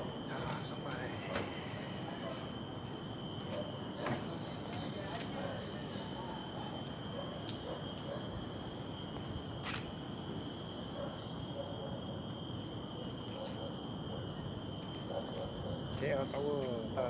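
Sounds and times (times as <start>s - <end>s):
insect chorus high-pitched tones: 0.0s - 17.0s.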